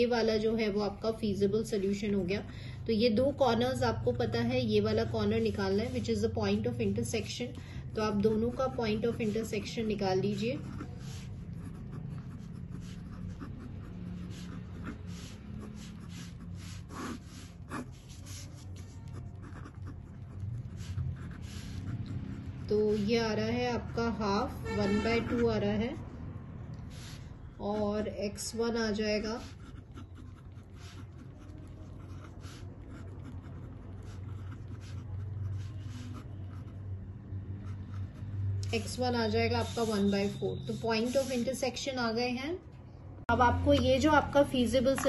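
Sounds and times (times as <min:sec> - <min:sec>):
pen writing on paper: 0:00.0 - 0:26.1, 0:26.9 - 0:41.7.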